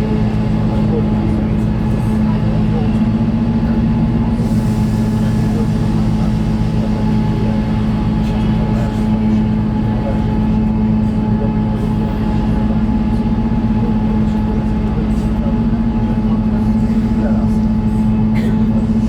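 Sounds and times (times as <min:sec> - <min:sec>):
diesel train running: 0:00.0 - 0:19.0.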